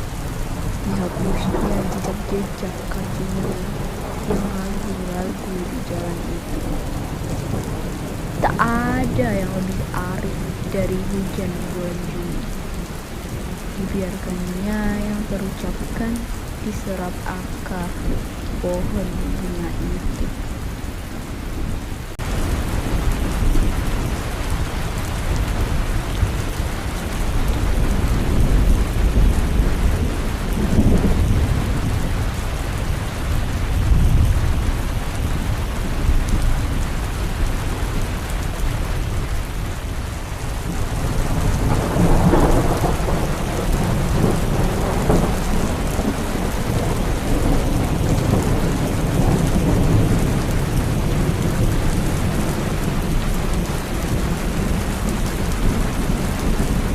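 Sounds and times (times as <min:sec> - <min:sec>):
heavy rain: 0:00.0 - 0:56.9
thunder rolling: 0:00.0 - 0:56.9.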